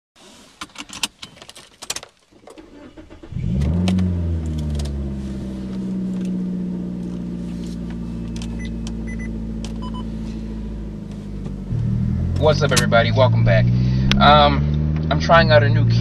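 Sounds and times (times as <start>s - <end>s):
car engine starting and idling: 2.0s - 16.0s.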